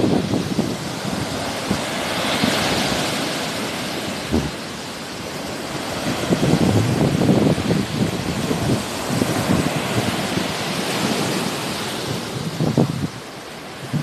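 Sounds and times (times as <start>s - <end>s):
sea waves washing ashore: 0.0s - 14.0s
wind buffeting microphone: 0.0s - 14.0s.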